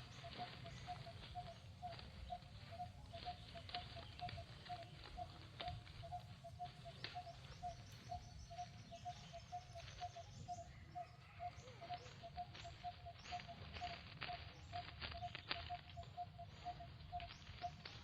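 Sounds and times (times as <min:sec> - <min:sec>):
higher bird chirps: 0:00.0 - 0:18.0.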